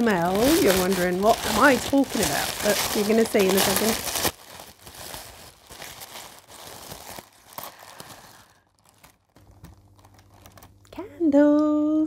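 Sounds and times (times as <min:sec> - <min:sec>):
packaging crinkling and tearing: 0:00.0 - 0:10.9.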